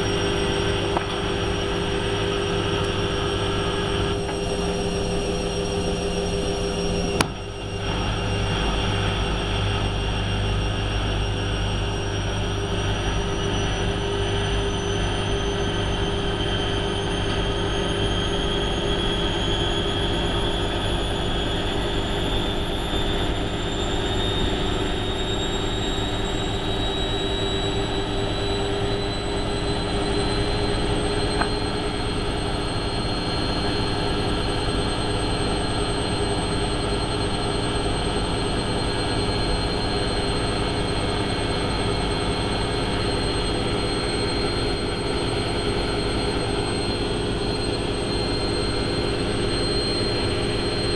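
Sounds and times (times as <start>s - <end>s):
high motor whine: 0.0s - 50.9s
washing machine spinning: 0.0s - 50.9s.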